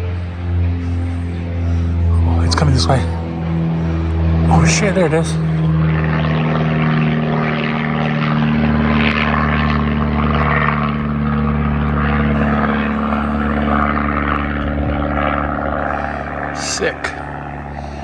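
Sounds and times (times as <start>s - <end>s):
airplane engine drone: 0.0s - 18.0s.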